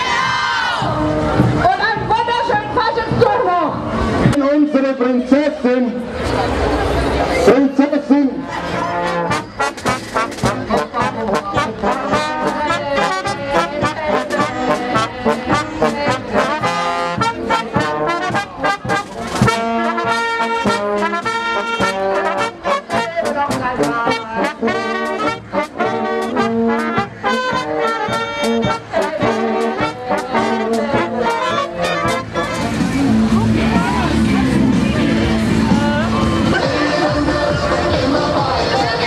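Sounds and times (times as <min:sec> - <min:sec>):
brass band playing: 0:00.0 - 0:39.0.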